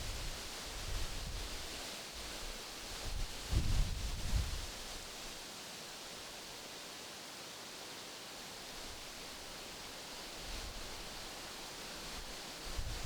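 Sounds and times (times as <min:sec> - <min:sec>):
wind rustling tree leaves: 0:00.0 - 0:13.0.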